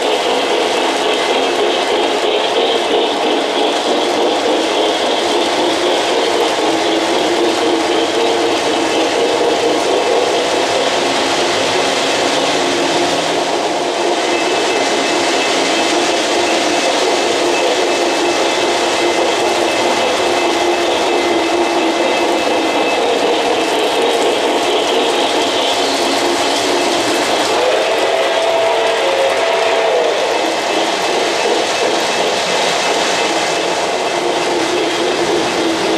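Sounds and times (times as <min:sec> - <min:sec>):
model train motors: 0:00.0 - 0:35.9
model train wheels rolling on rails: 0:00.0 - 0:35.9.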